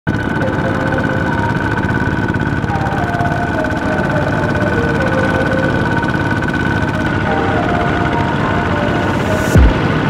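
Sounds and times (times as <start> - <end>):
diesel engines chugging: 0.1 - 10.0.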